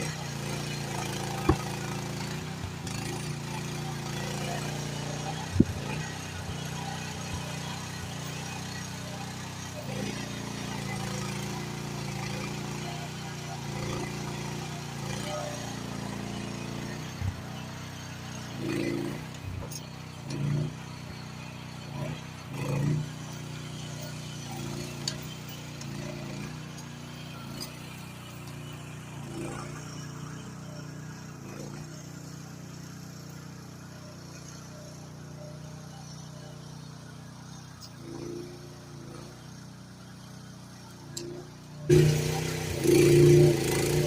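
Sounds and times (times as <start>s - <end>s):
excavator engine running: 0.0s - 44.0s.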